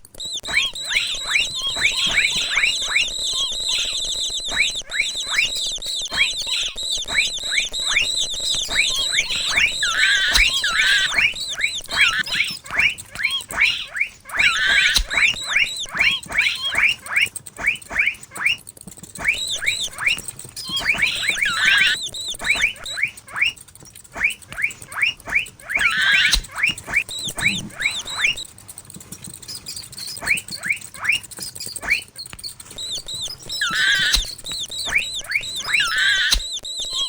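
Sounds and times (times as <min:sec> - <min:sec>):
mouse squeaking: 0:00.0 - 0:37.0.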